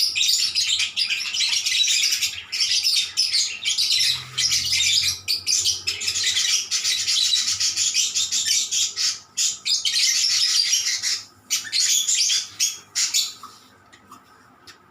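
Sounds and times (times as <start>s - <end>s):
lovebirds chattering: 0.0s - 13.8s.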